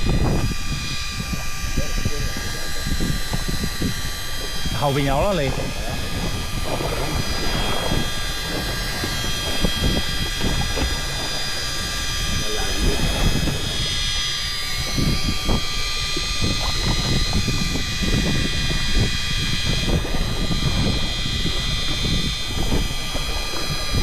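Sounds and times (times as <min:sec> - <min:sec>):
boat engine whining: 0:00.0 - 0:24.0
wind buffeting microphone: 0:00.0 - 0:24.0.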